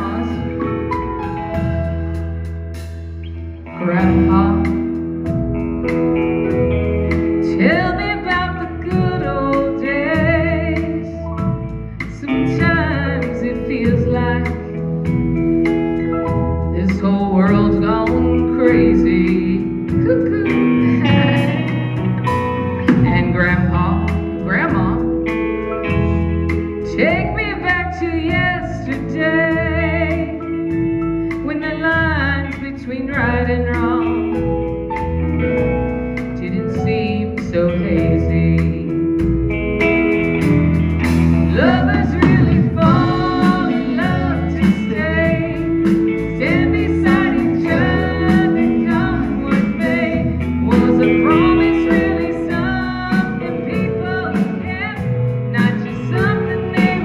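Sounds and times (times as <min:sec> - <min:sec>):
woman singing lead: 0:00.0 - 0:01.7, 0:02.8 - 0:39.4, 0:40.4 - 0:57.0
live country band playing: 0:00.0 - 0:57.0.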